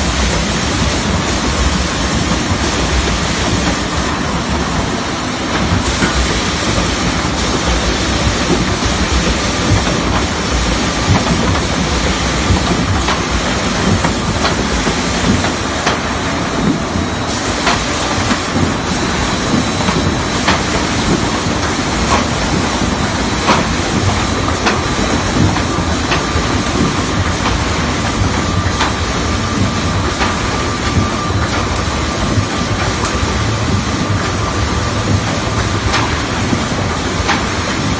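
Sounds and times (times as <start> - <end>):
sander rumble and hiss: 0.0 - 37.9.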